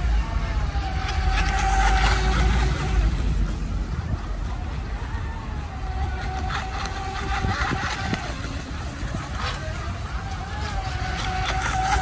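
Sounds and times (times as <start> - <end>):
low rumble: 0.0 - 12.0
speedboat motor whine: 0.0 - 12.0.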